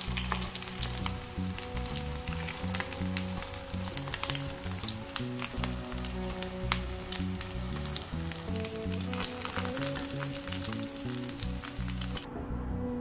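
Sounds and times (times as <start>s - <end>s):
patties sizzling in oil: 0.0s - 12.3s
background music: 0.0s - 13.0s.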